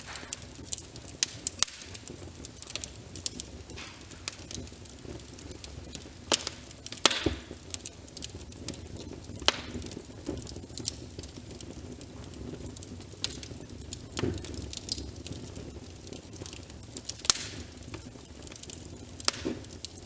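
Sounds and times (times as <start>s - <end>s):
rain hissing: 0.0s - 20.0s
wood fire crackling: 0.0s - 20.0s.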